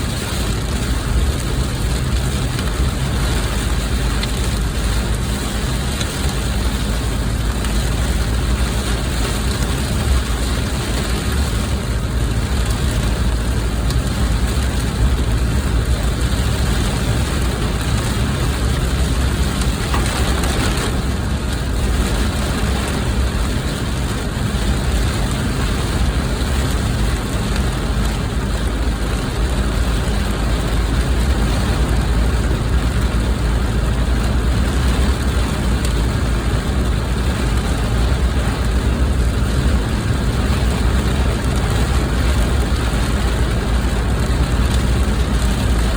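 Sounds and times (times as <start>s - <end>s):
heavy rain on a car: 0.0s - 45.9s
vehicle low rumble: 0.0s - 45.9s.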